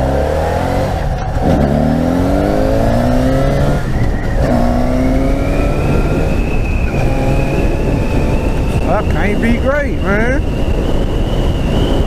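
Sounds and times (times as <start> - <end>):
motorcycle engine accelerating: 0.0 - 12.0
wind rush on microphone: 0.0 - 12.0.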